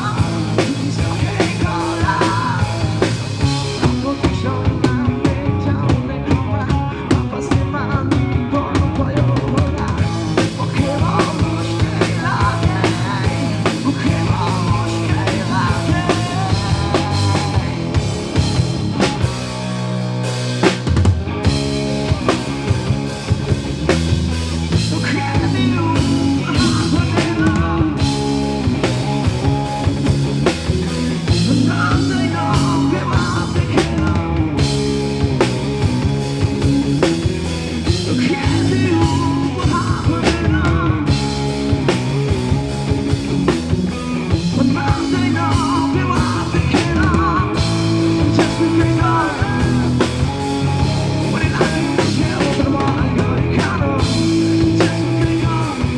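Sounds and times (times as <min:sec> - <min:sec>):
bass guitar: 0:00.0 - 0:55.9
drum kit: 0:00.0 - 0:55.9
electric guitar: 0:00.0 - 0:55.9.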